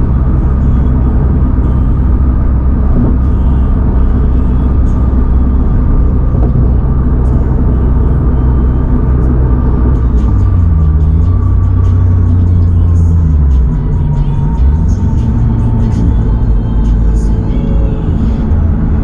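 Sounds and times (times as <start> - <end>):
car engine cruising: 0.0 - 19.0
road rumble: 0.0 - 19.0.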